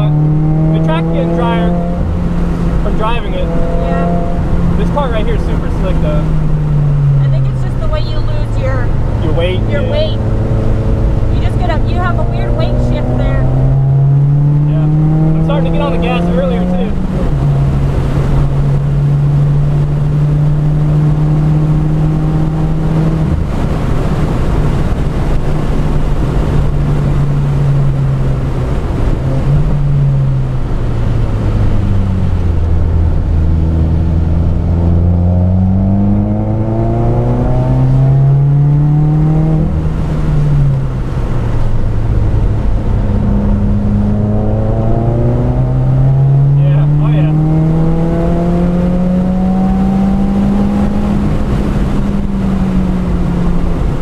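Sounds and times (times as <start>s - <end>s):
car engine running hard: 0.0s - 54.0s
tyre and road noise: 0.0s - 54.0s.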